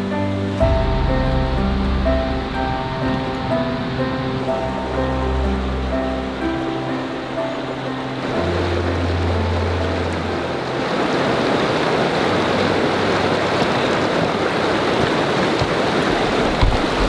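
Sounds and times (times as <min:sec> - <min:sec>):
background music: 0:00.0 - 0:14.5
creek rushing over rocks: 0:00.0 - 0:17.0.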